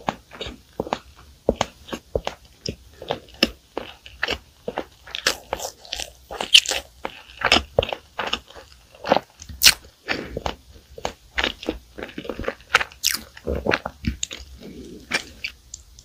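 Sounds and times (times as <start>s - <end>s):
crunchy pastry chewing: 0.0s - 16.0s.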